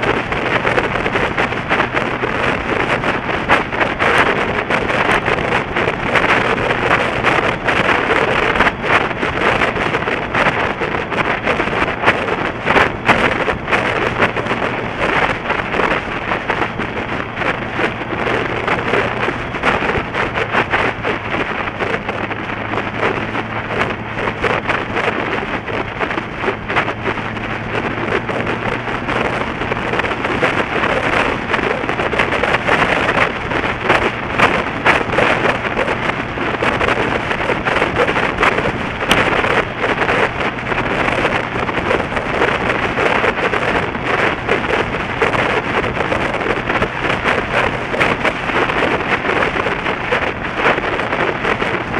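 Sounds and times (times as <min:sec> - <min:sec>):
low engine drone: 0:00.0 - 0:51.9
wind buffeting microphone: 0:00.0 - 0:51.9.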